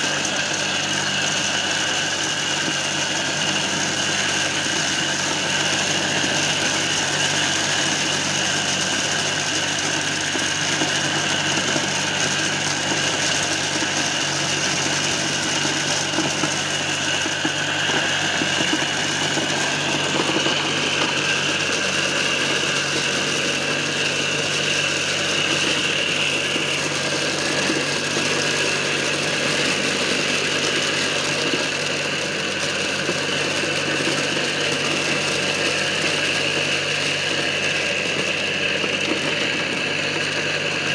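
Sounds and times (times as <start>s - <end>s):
electric corn sheller whining: 0.0s - 40.9s.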